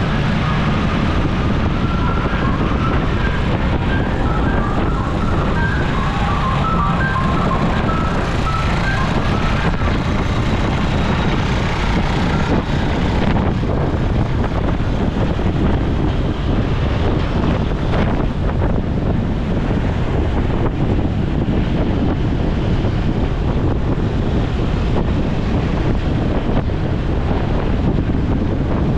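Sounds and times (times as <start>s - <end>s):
road noise: 0.0s - 28.9s
wind buffeting microphone: 0.0s - 28.9s.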